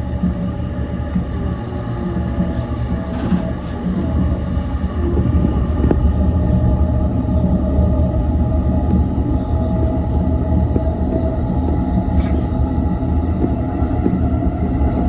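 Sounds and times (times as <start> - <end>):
electric train rumble: 0.0 - 15.0
steady train tones: 0.0 - 15.0.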